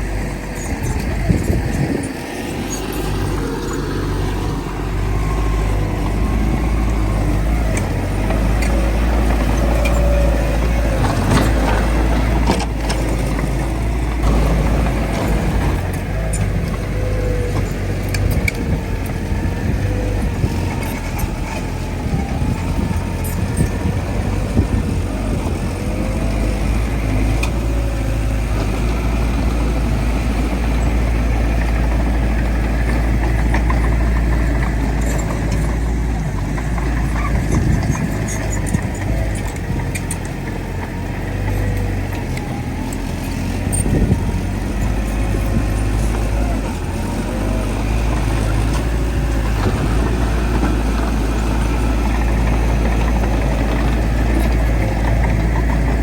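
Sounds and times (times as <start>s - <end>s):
diesel engine of heavy machinery: 0.0s - 56.0s.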